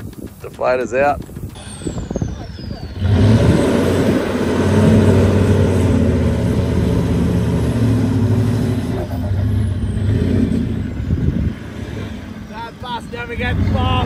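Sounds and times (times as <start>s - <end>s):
vehicle engine running under load: 0.0s - 14.0s.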